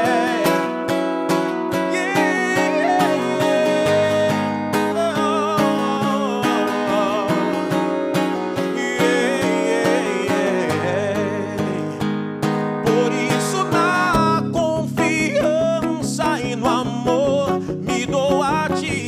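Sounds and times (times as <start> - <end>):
person singing: 0.0 - 19.0
strummed acoustic guitar: 0.0 - 19.0.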